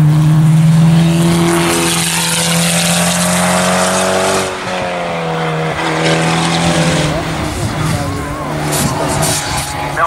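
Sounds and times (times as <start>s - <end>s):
car engine pulling hard: 0.0s - 10.0s.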